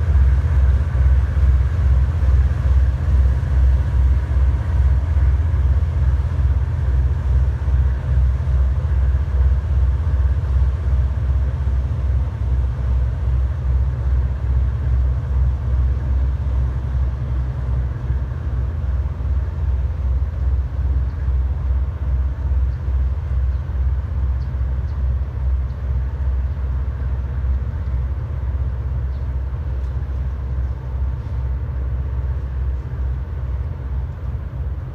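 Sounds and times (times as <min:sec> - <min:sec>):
boat engines rumbling: 0:00.0 - 0:34.9.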